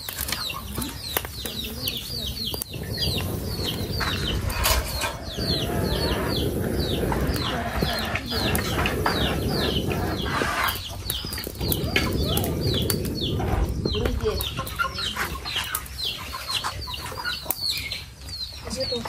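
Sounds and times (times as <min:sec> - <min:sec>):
birds chirping high peeps: 0:00.0 - 0:19.0.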